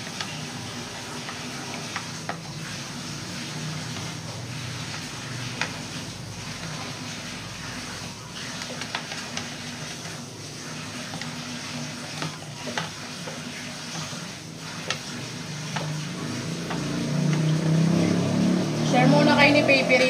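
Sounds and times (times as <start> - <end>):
batter sizzling in frying pan: 0.0 - 20.0.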